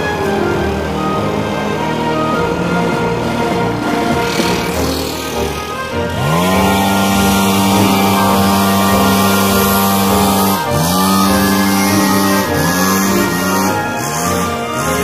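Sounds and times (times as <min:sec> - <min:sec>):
leaf blower engine whine: 0:00.8 - 0:15.0.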